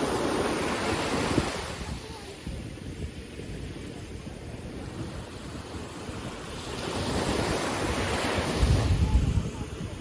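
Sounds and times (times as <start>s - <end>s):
sea waves washing onto beach: 0.0s - 10.0s
wind buffeting microphone: 0.0s - 10.0s.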